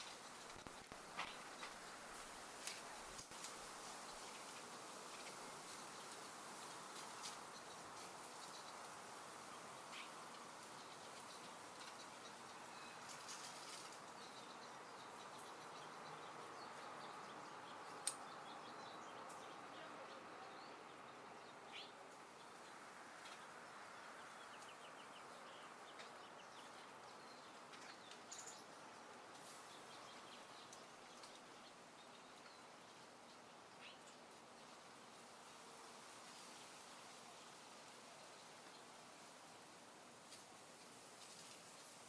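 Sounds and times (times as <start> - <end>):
soft wind hiss: 0.0 - 42.0.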